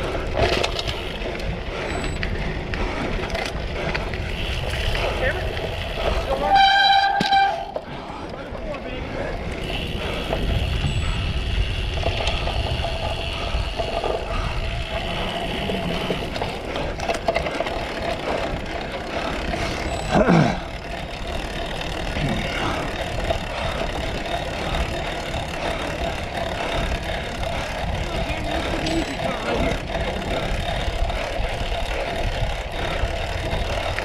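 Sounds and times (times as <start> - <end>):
wind and riding noise: 0.0 - 34.0.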